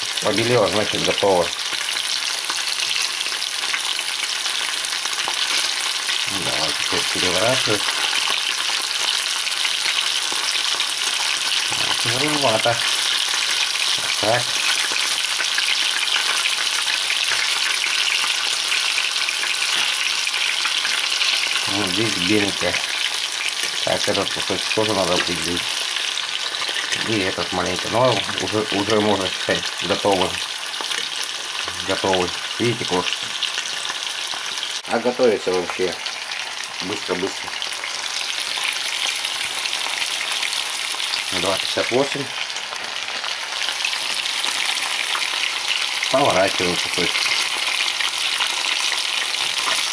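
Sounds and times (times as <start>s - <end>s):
fish frying in oil: 0.0s - 49.9s.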